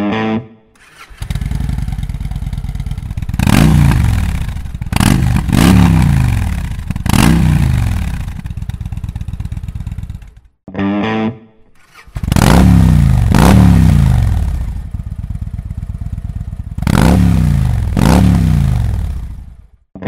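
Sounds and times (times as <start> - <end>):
motorcycle engine idling and revving: 0.8 - 10.6, 11.8 - 19.9.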